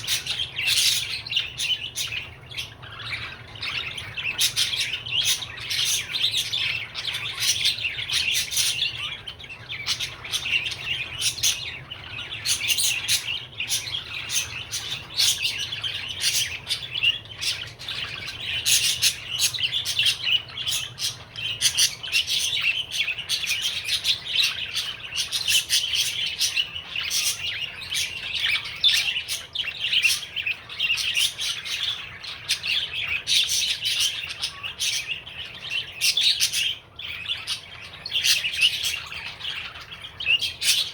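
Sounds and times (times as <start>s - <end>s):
budgerigar warbling and chirping: 0.0s - 40.9s.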